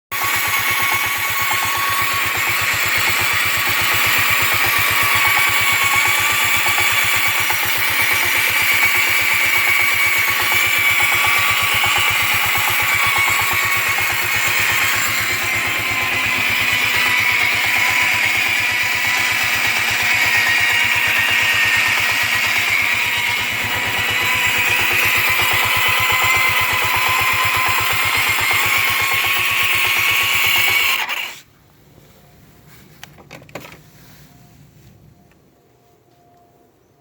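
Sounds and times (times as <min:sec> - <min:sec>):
scooter engine whining: 0:00.1 - 0:31.6.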